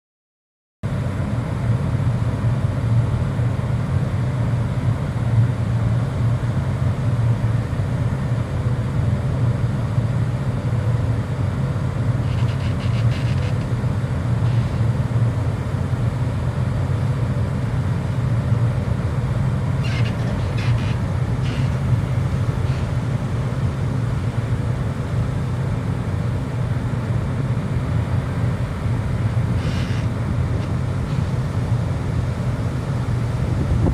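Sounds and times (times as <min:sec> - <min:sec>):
ferry engines droning: 0:00.8 - 0:33.9.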